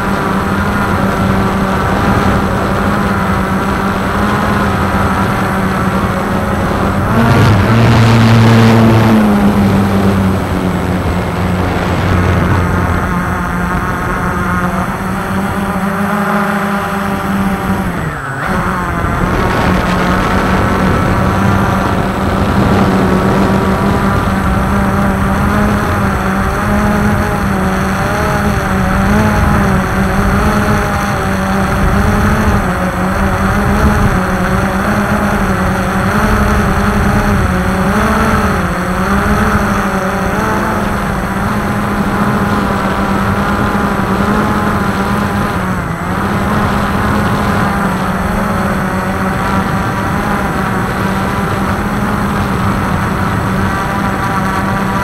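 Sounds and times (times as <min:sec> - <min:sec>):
quadcopter propellers whirring: 0:00.0 - 0:55.0.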